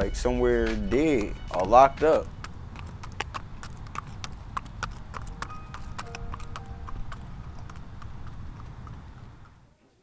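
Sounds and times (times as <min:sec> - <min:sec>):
horse hooves clip-clopping on asphalt: 0:00.0 - 0:09.7
low steady rumble: 0:00.0 - 0:09.7.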